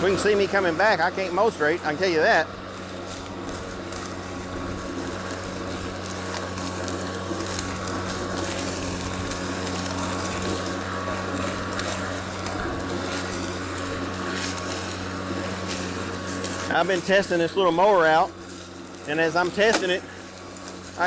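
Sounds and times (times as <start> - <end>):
electric lawn mower humming: 0.0 - 21.0.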